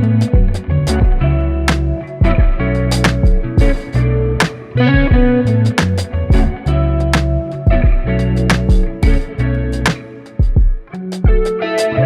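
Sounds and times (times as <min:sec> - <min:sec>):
bass line: 0:00.0 - 0:10.0
drum beat: 0:00.0 - 0:11.6
guitar: 0:00.0 - 0:12.0.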